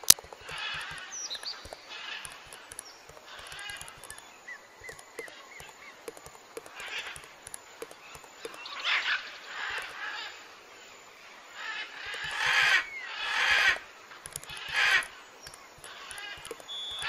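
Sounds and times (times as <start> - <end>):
short chirping calls: 0.0 - 17.0.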